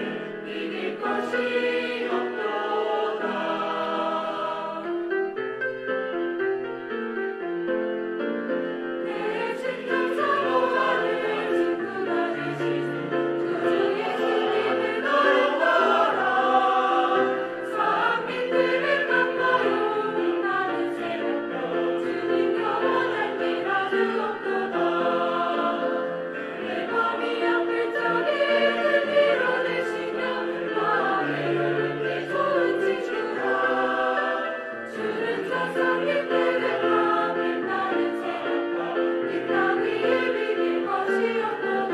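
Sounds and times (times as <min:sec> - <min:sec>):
church choir singing: 0:00.0 - 0:05.4, 0:09.0 - 0:41.9.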